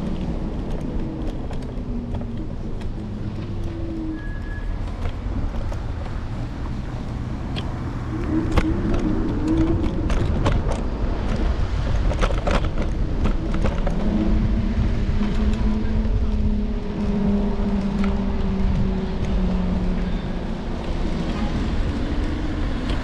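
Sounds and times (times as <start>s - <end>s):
car traffic passing: 0.0s - 23.0s
road rumble: 0.0s - 23.0s
scooter clicks and rattles: 0.0s - 23.0s.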